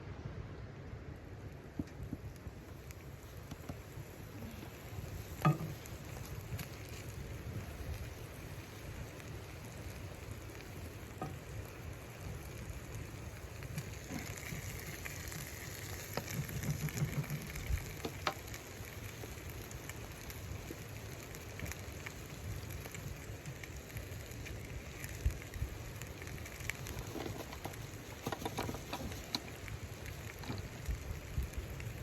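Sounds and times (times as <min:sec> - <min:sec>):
steady hiss: 0:00.0 - 0:32.0
small crackles and ticks: 0:01.2 - 0:32.0.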